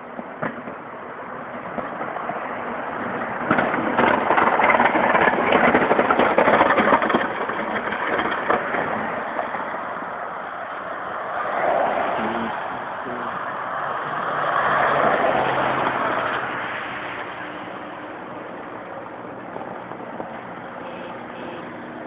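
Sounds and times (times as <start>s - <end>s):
plow pushing snow rushing: 0.9s - 22.0s.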